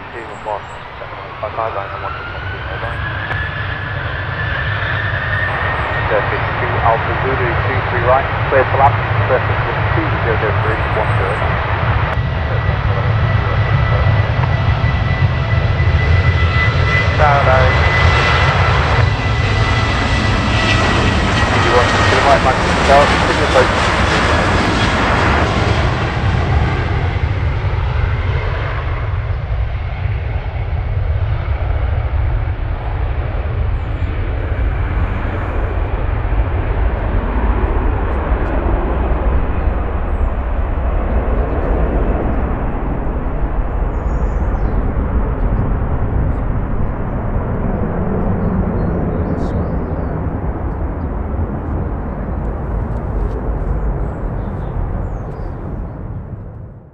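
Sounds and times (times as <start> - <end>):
jet engines rumbling at takeoff: 0.0 - 56.9.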